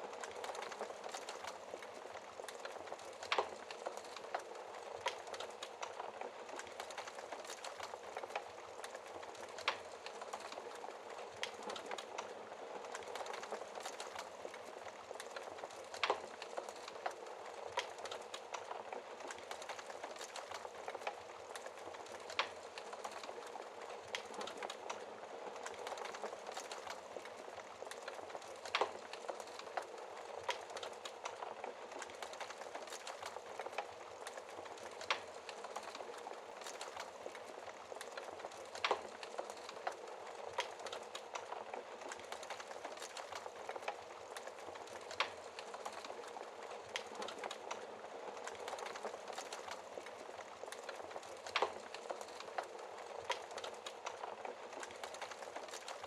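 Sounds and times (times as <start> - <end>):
fireplace fire crackling: 0.0 - 56.0.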